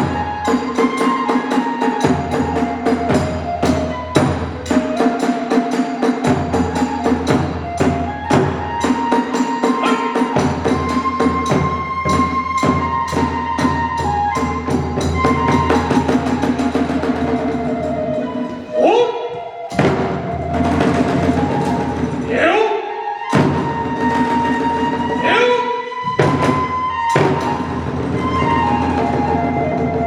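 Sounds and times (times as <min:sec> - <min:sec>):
drums and hand cymbals: 0:00.0 - 0:18.8, 0:19.6 - 0:22.4, 0:23.2 - 0:30.0
bamboo flute: 0:00.0 - 0:30.0.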